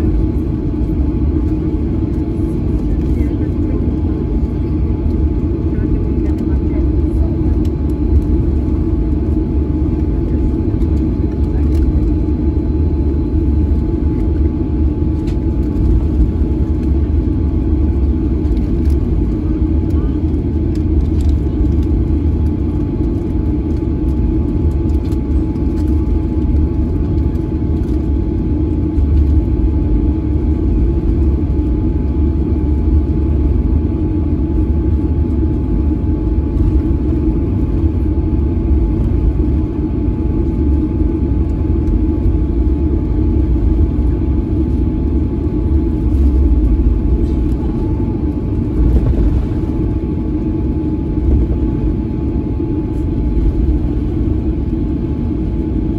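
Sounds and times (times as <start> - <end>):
airliner cabin rumble taxiing: 0.0 - 55.9.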